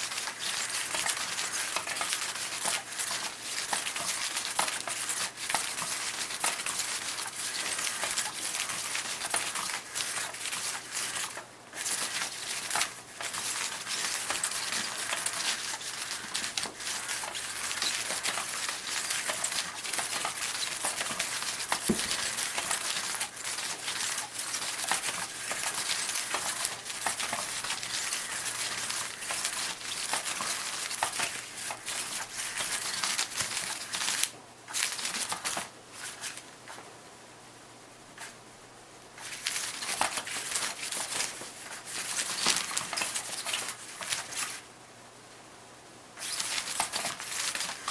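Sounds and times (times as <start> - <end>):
sheet crinkling and rustling: 0.0 - 36.9, 39.2 - 44.6, 46.2 - 47.9.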